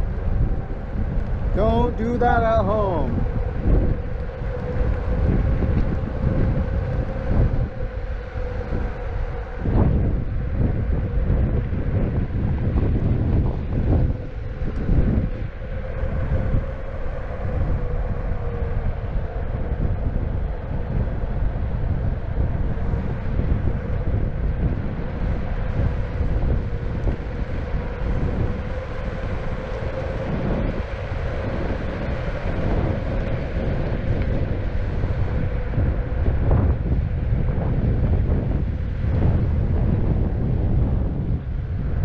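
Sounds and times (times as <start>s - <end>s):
electric motor whine: 0.0s - 42.0s
wheels rumbling on asphalt: 0.0s - 42.0s
wind buffeting microphone: 0.0s - 42.0s.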